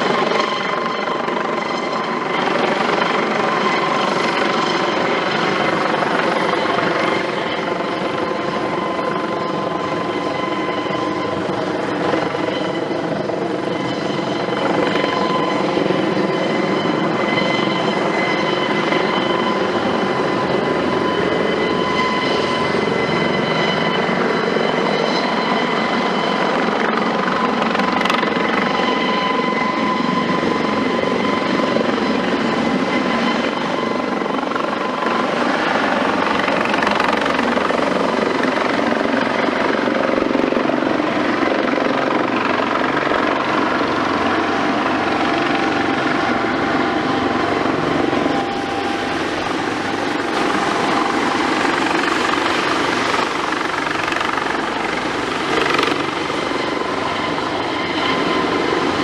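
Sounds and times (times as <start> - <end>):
helicopter rotor noise: 0.0 - 59.0
turbine whine: 0.0 - 59.0.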